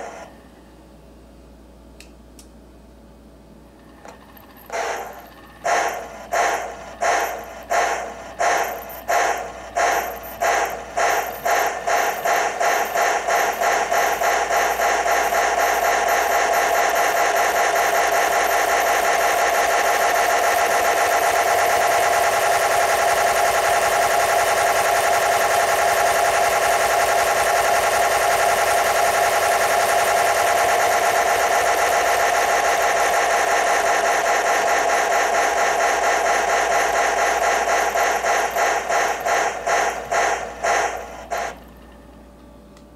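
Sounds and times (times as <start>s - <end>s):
model steam locomotive chuffing: 0.0s - 0.3s, 3.9s - 42.1s
steady motor whine: 3.8s - 41.9s.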